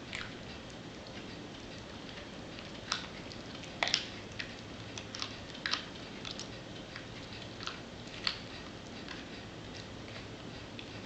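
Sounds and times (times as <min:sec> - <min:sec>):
dog crunching bone: 0:00.0 - 0:11.0.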